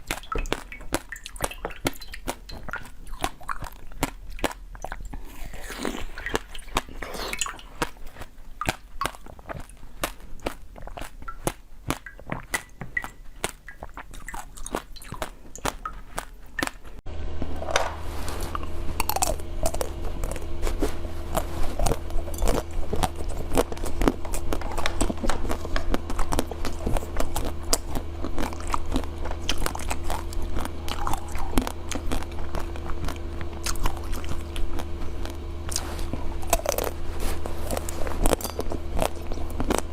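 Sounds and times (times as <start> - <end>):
crunchy bites and chewing: 0.0 - 17.0, 17.6 - 39.9
steady low hum: 0.0 - 39.9.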